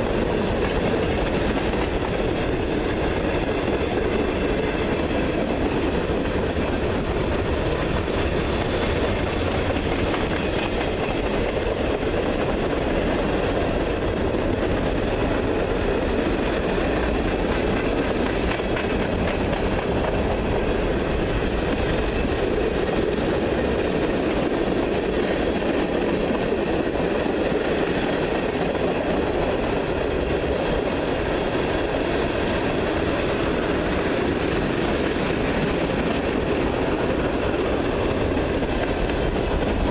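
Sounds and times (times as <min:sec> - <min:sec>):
train wheels rumbling on rails: 0:00.0 - 0:39.9
wheels clickety-clack over joints: 0:00.0 - 0:39.9.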